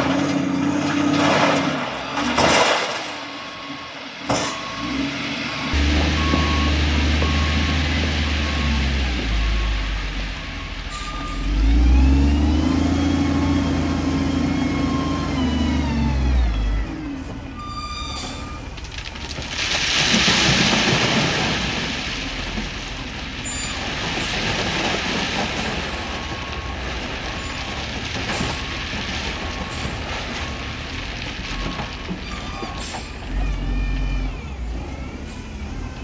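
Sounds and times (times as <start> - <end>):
diesel engine revving: 0.0 - 36.0.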